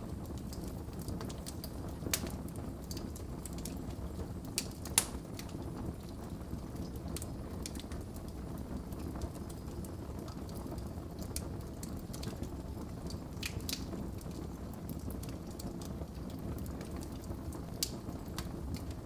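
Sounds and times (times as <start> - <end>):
fire pops and crackles: 0.0 - 19.0
wood fire rumbling: 0.0 - 19.0.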